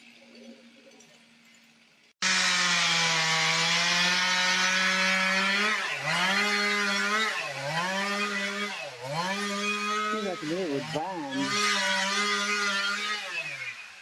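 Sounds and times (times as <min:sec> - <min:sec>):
chainsaw cutting wood: 0:02.2 - 0:14.0.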